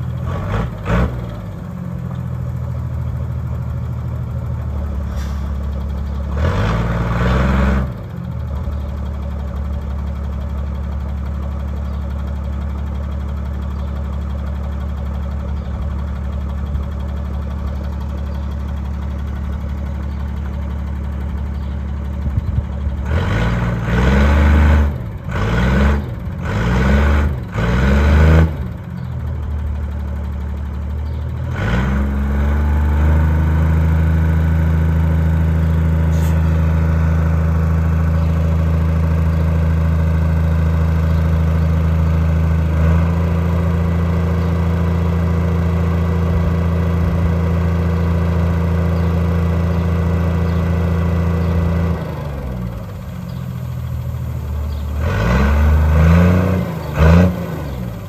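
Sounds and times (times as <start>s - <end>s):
truck diesel engine idling and revving: 0.0s - 58.0s.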